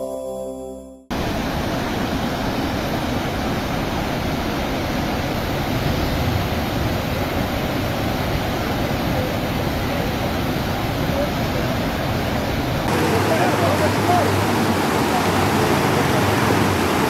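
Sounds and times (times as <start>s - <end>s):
river floodwater rushing: 1.1s - 17.0s.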